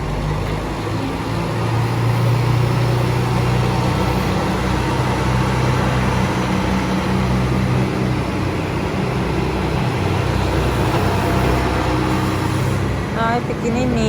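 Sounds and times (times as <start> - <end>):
vehicle idling: 0.0 - 14.0.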